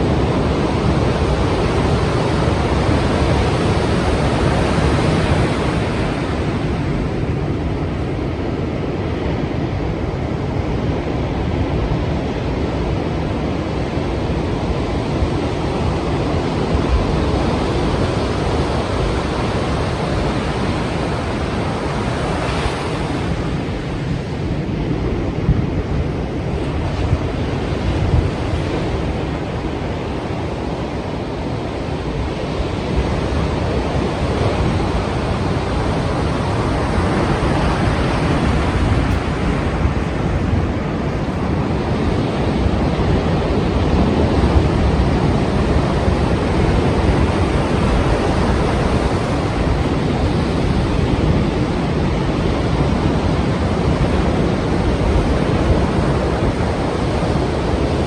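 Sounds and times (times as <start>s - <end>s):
sea waves breaking: 0.0s - 58.0s
wind on microphone: 0.0s - 58.0s.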